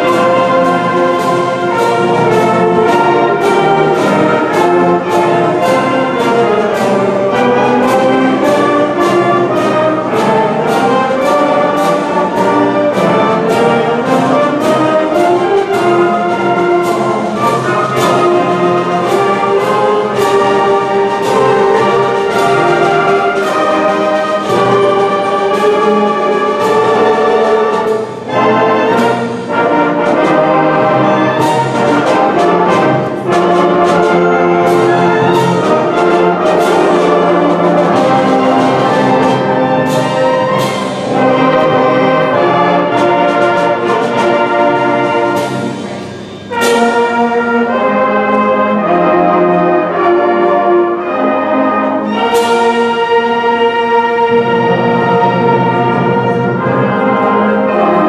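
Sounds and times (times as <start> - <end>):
concert band playing: 0.0 - 58.0.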